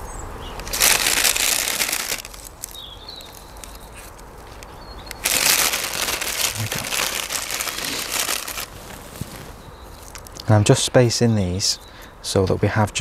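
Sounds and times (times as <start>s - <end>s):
hand rustling in gritty compost: 0.6s - 11.8s.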